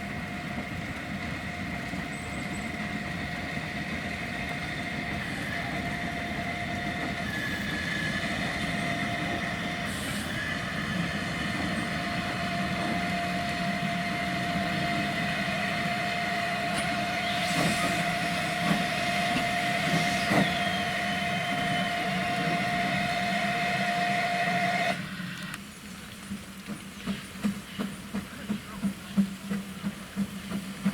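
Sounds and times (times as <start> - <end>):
train running: 0.0 - 30.9.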